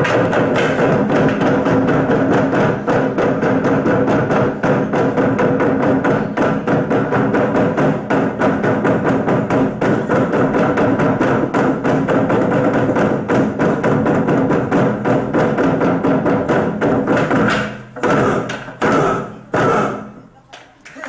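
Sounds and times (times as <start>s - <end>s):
sharp wooden clacks: 0.0s - 14.1s, 14.7s - 19.9s
fast percussion music: 0.0s - 20.2s
loud drum hit: 0.0s - 20.2s.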